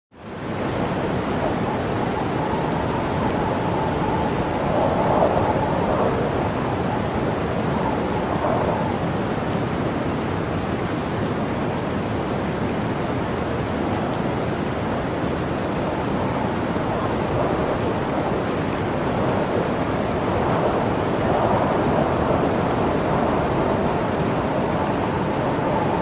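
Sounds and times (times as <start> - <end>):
howling blizzard wind: 0.2 - 26.0.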